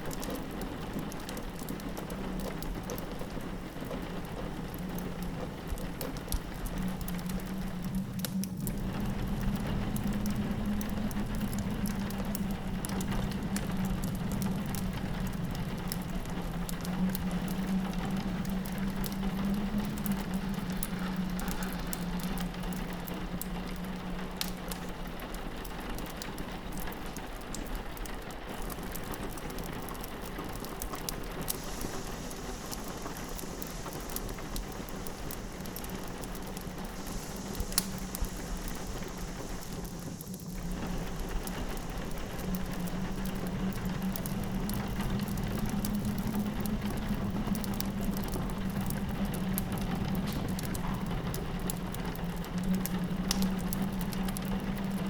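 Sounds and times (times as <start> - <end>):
rain pattering on window: 0.0 - 55.0
wood fire crackling: 0.0 - 55.0.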